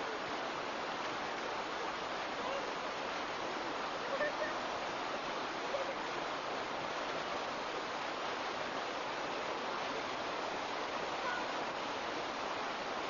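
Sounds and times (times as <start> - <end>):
rushing water roar: 0.0 - 13.0.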